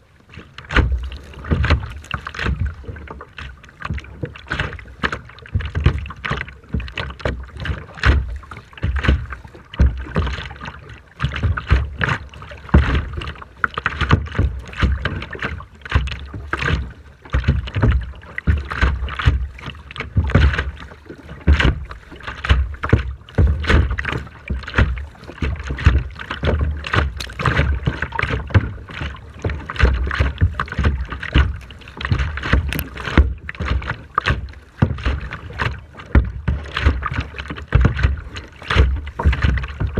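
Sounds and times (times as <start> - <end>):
seawater splashing: 0.0 - 39.9.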